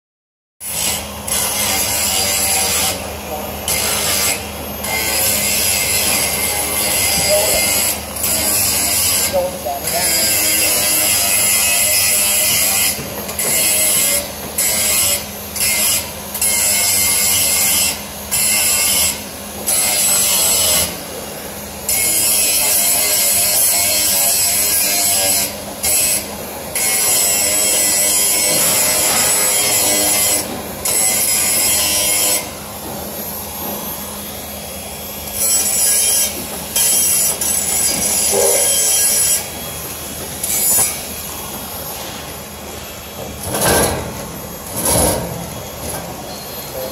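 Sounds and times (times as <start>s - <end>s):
angle grinder grinding steel: 0.6s - 21.1s, 21.9s - 33.3s, 35.0s - 46.9s.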